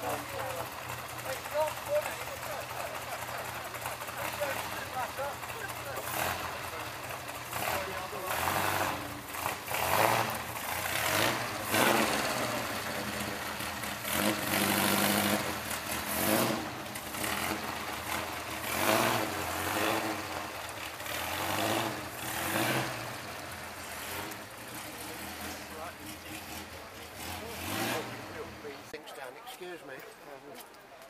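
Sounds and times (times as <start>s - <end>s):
sports car engine revving: 0.1s - 28.8s.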